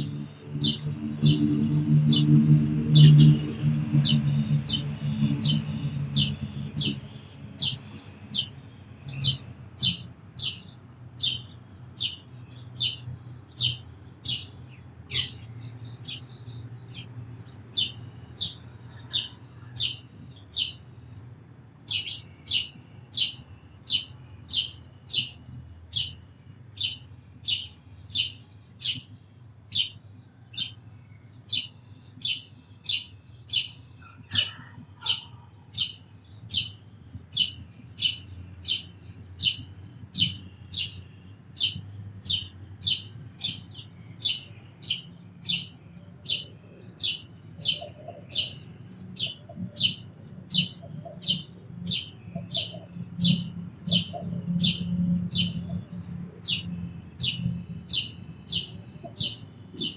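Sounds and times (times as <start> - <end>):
sparrow chirping: 0.0 - 59.9.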